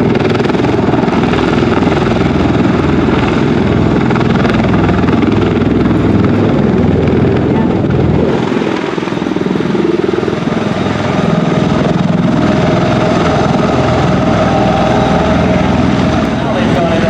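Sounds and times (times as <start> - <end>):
tiltrotor aircraft rotor noise: 0.0 - 17.0
whining tone: 0.0 - 17.0.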